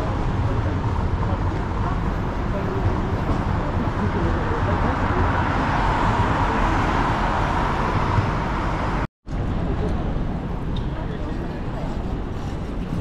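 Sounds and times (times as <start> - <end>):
bus passing: 0.0 - 13.0
low traffic rumble: 0.0 - 13.0
passing vehicles hum: 0.0 - 13.0.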